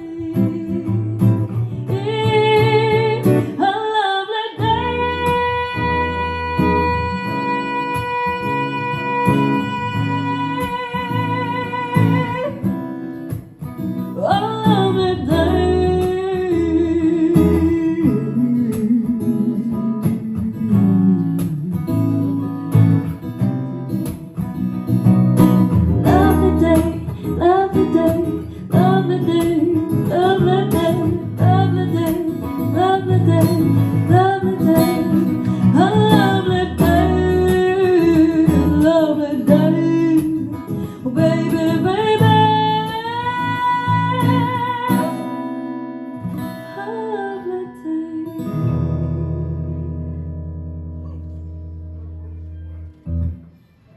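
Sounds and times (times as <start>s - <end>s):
woman singing: 0.0s - 22.7s, 25.5s - 50.5s
acoustic guitar strumming: 0.0s - 53.9s.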